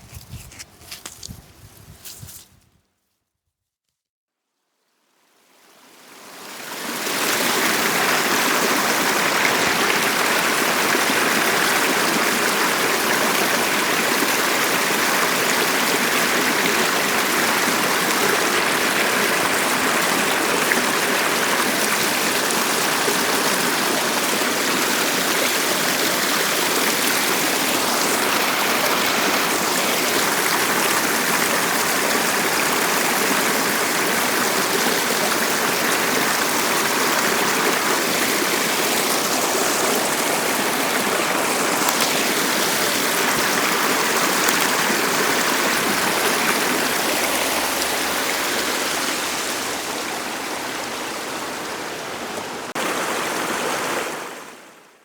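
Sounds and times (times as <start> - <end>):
stream rushing: 5.5 - 54.9.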